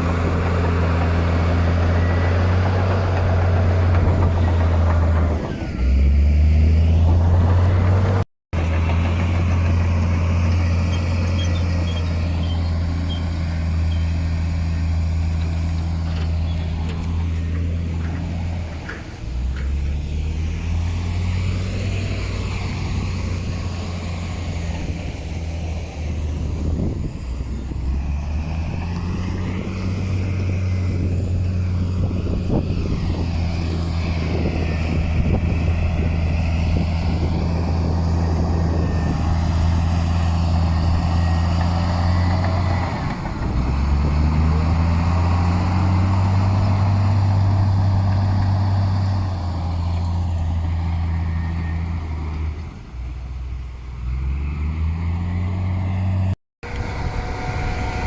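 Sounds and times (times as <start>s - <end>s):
heavy diesel engine running: 0.0s - 53.0s, 55.5s - 58.0s.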